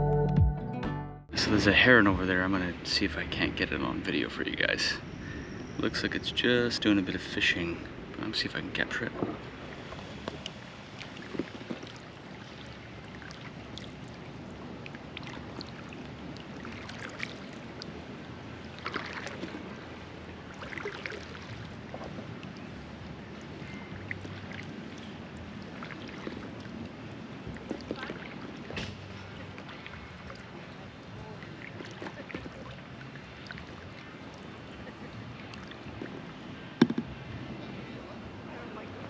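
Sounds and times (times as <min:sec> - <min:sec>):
soft water splashes: 0:01.9 - 0:39.0.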